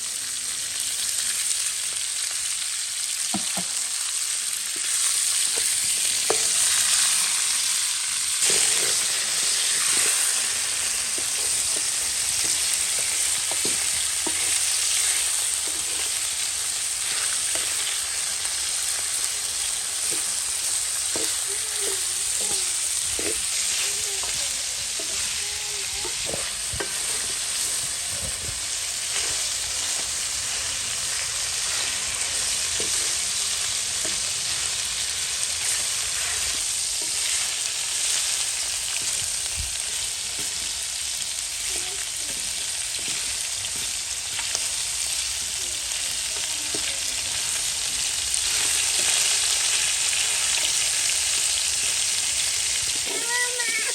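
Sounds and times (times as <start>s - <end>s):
chicken frying in hot oil: 0.0s - 53.9s.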